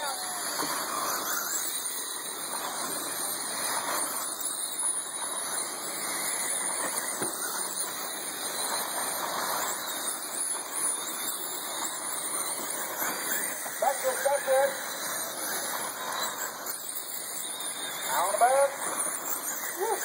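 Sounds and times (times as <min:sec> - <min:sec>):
rc car motors whining: 0:00.0 - 0:20.0
steady noise haze: 0:00.0 - 0:20.0.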